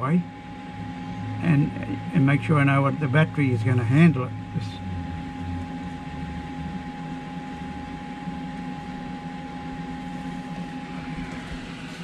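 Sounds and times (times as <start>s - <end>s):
fridge compressor humming: 0.0s - 12.0s
thin even whine: 0.0s - 12.0s.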